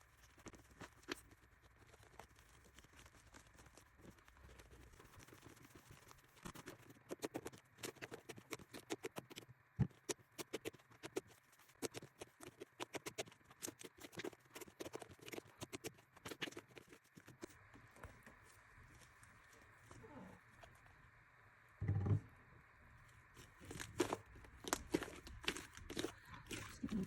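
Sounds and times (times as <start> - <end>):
slime squishing with sticky pops: 0.0 - 20.8, 23.3 - 27.0.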